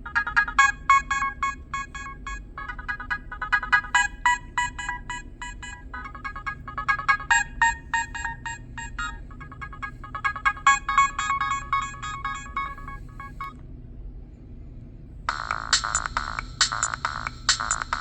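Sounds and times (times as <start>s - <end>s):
mobile phone ringtone melody: 0.0s - 13.6s, 15.3s - 18.0s.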